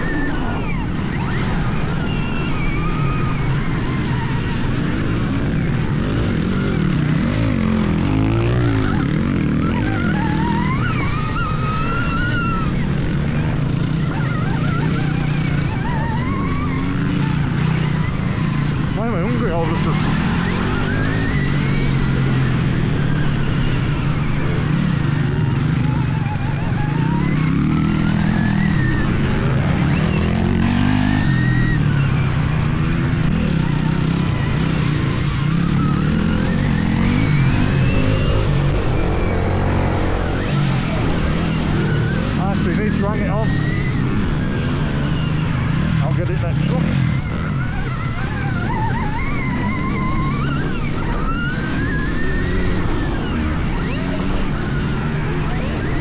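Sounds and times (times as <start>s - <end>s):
electric motorbike motor whine: 0.0s - 56.0s
low rumble of riding: 0.0s - 56.0s.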